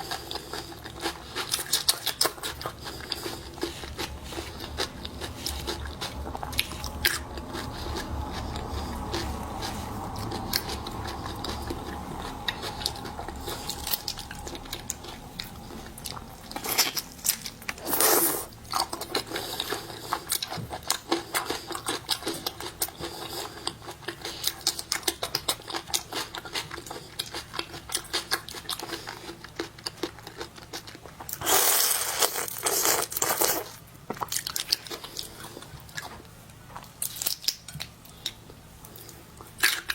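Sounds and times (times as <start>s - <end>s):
crunching and chewing shellfish: 0.0s - 39.9s.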